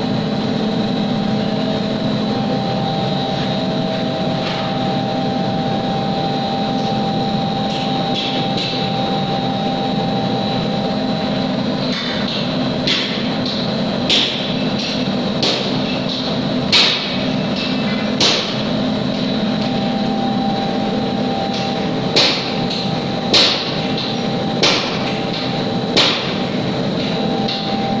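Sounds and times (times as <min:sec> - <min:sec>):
grinding machine hum: 0:00.0 - 0:28.0.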